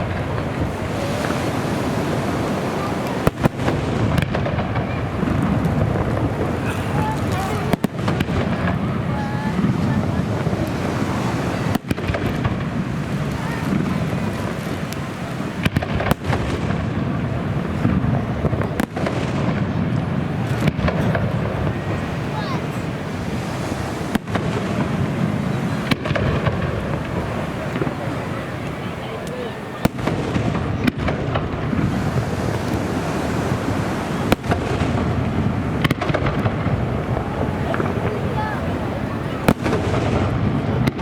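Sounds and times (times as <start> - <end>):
sharp fireworks bangs: 0.0 - 41.0.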